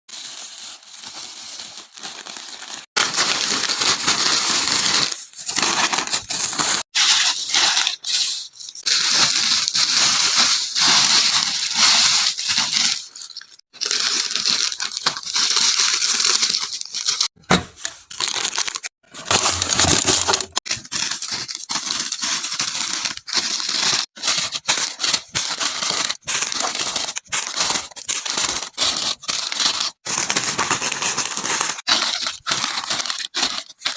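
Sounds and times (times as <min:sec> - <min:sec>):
plastic snack packets crinkling: 0:00.1 - 0:17.3, 0:18.0 - 0:33.9
packaging tearing: 0:00.1 - 0:33.9.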